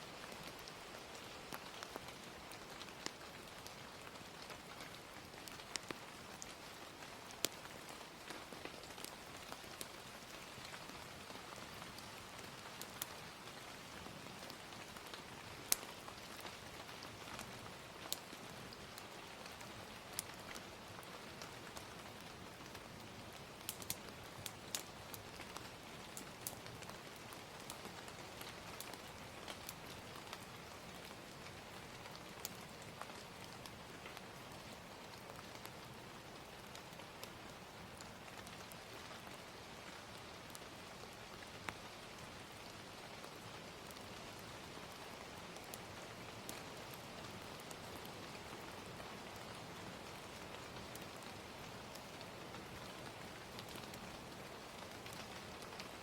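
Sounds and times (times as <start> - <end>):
gentle rain: 0.0 - 56.0
wood fire crackling: 0.1 - 56.0.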